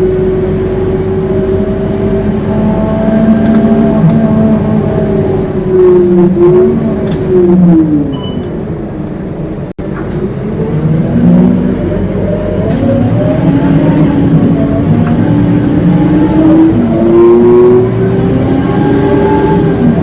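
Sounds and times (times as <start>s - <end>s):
bus drivetrain howling: 0.0s - 20.0s.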